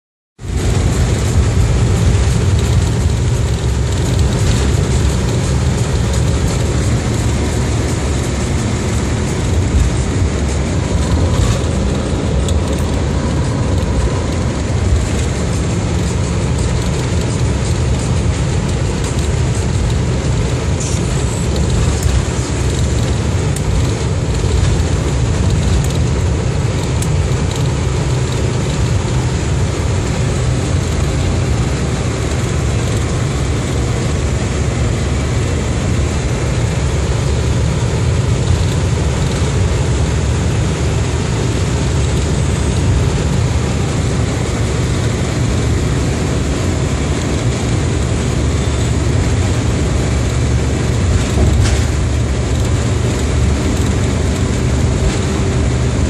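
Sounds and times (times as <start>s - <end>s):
vehicle road and engine noise: 0.4s - 56.0s.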